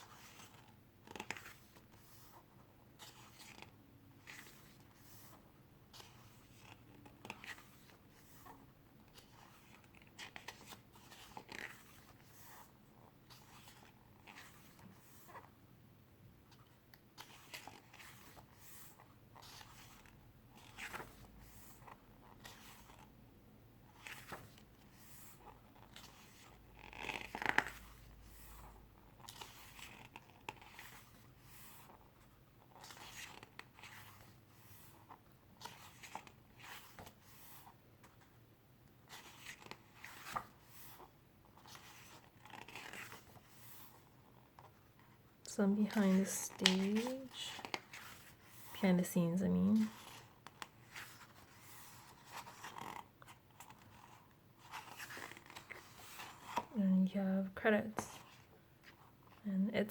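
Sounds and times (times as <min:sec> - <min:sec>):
book pages rustling: 0:00.0 - 0:15.6, 0:16.4 - 0:23.1, 0:23.8 - 0:56.8, 0:57.9 - 0:59.4.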